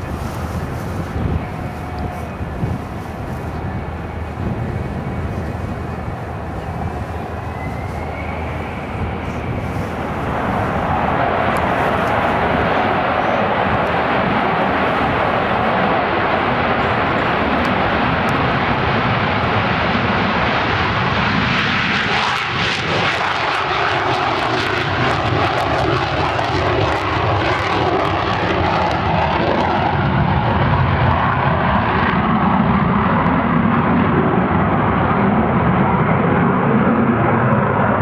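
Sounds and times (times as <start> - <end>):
jet fighter taking off: 0.0 - 38.0.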